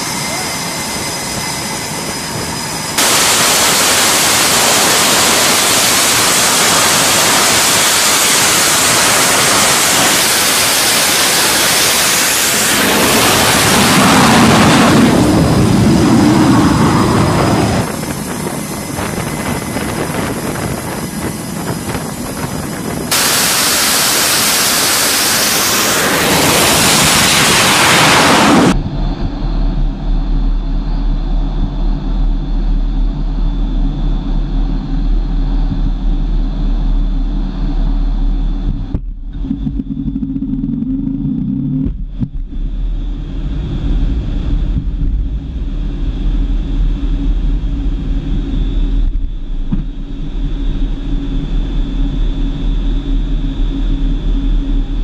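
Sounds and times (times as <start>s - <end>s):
jet engines roaring: 0.0s - 55.0s
low hum: 0.0s - 55.0s.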